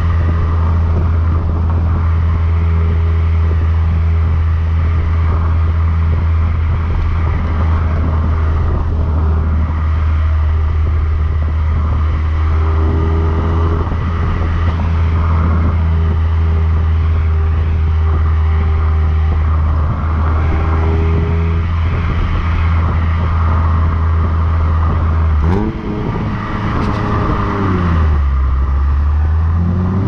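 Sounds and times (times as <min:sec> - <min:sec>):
car exhaust drone: 0:00.0 - 0:30.0.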